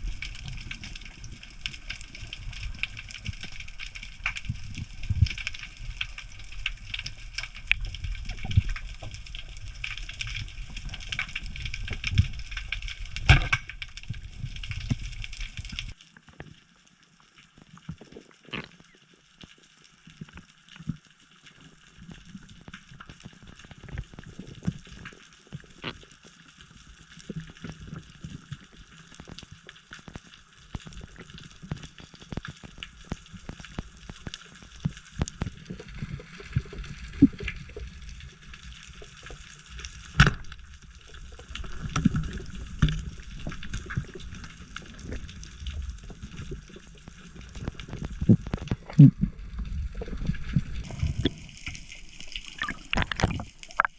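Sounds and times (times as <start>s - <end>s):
low rumble of water movement: 0.0s - 53.9s
underwater crackling and clicking: 0.0s - 53.9s.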